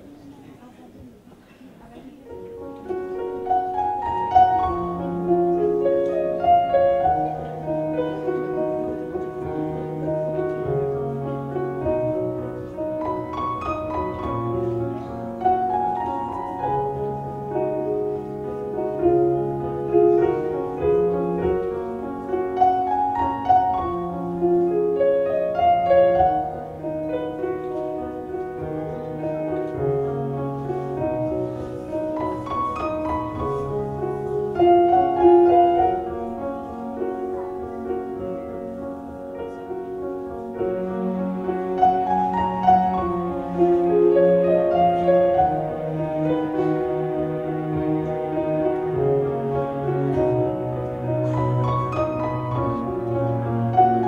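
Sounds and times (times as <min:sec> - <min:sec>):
solo piano music: 0:01.9 - 0:54.0.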